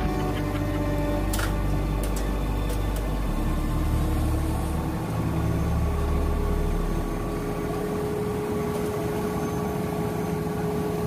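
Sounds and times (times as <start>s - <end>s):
crane diesel engine running: 0.0s - 11.0s
steady whine: 0.0s - 11.0s.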